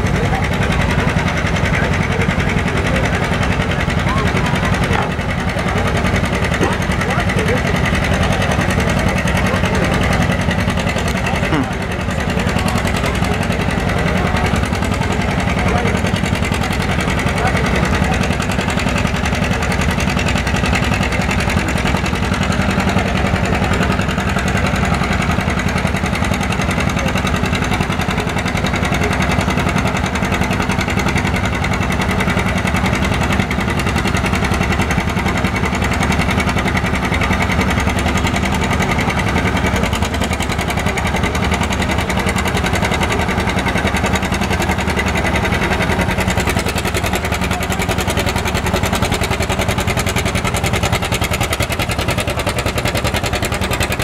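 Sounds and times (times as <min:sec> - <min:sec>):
tractor engine labouring: 0:00.0 - 0:54.0.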